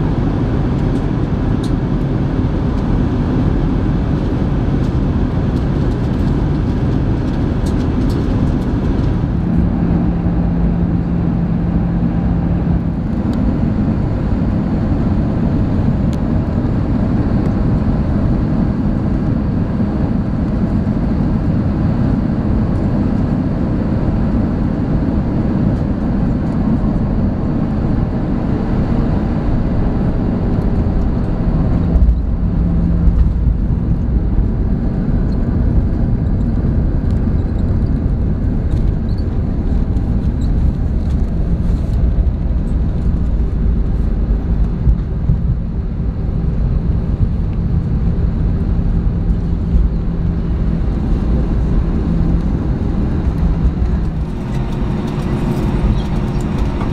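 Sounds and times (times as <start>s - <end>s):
airplane engine and airflow noise: 0.0s - 56.9s
wheels rumbling on runway: 0.0s - 56.9s.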